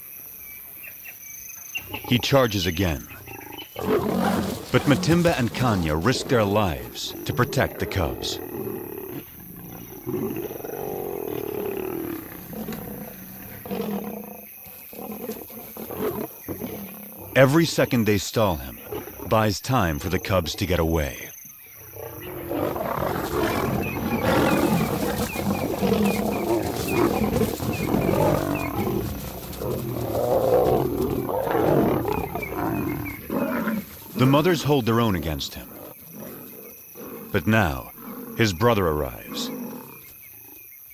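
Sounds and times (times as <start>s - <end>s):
lions snarling and roaring: 1.8s - 40.6s.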